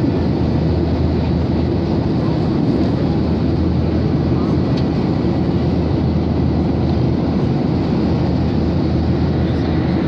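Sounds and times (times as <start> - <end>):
aircraft cabin engine rumble: 0.0 - 10.0.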